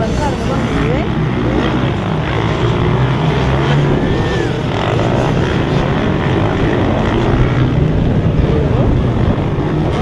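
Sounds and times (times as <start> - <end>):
motocross motorcycle engines: 0.0 - 10.0.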